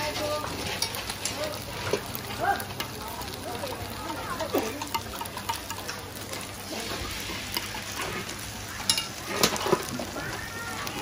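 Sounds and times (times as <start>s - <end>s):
batter sizzling in pan: 0.0s - 11.0s.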